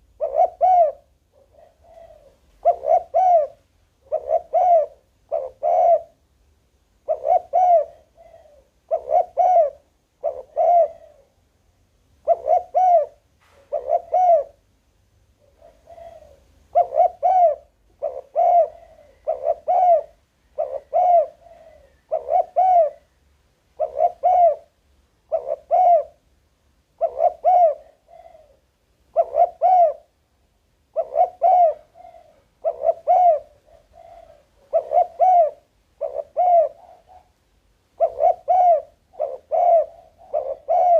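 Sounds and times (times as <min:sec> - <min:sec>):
dove cooing: 0:00.0 - 0:06.2, 0:07.0 - 0:11.4, 0:12.2 - 0:14.7, 0:15.4 - 0:26.2, 0:27.0 - 0:30.2, 0:30.9 - 0:40.9.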